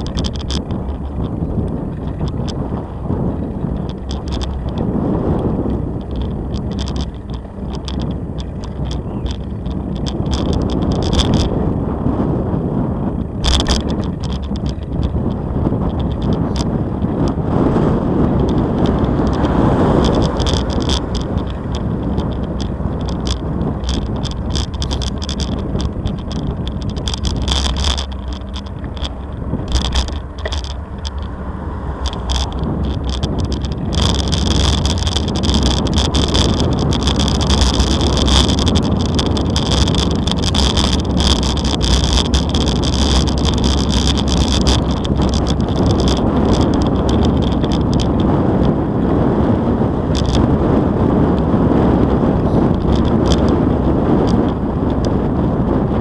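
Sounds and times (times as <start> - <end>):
bicycle tyres rumbling on bricks: 0.0 - 56.0
bike rattling and knocking: 0.0 - 56.0
wind rumble on microphone: 0.0 - 56.0.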